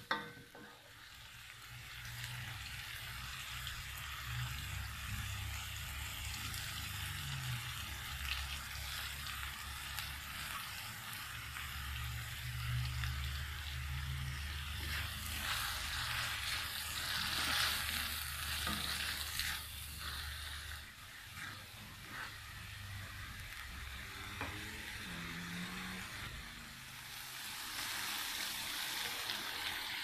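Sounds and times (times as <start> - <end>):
paste sizzling in oil: 0.0 - 30.0.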